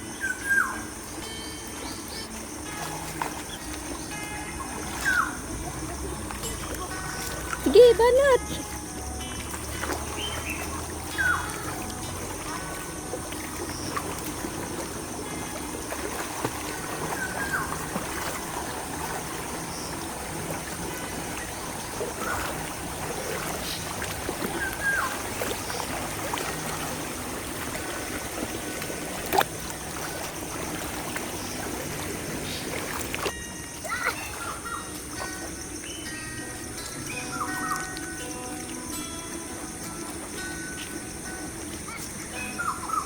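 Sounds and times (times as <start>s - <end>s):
stream flowing over stones: 0.0s - 43.0s.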